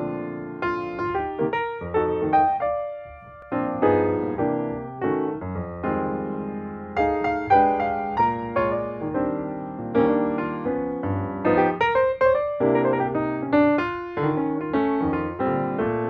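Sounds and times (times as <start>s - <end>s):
piano-like keyboard music: 0.0s - 16.0s.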